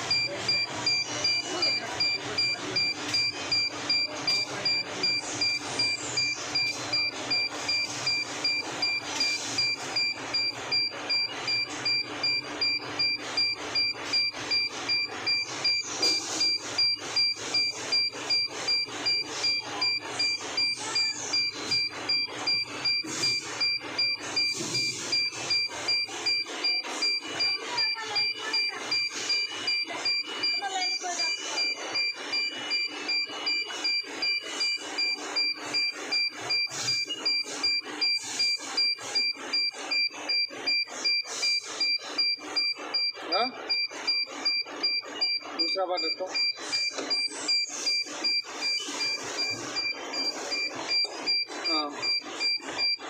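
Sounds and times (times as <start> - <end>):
high electronic beeps: 0.0 - 53.0.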